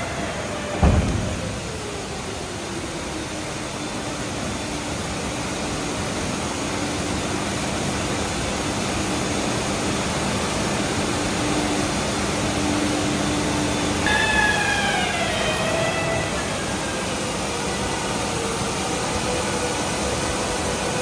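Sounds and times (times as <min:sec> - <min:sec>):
rushing machinery noise: 0:00.0 - 0:21.0.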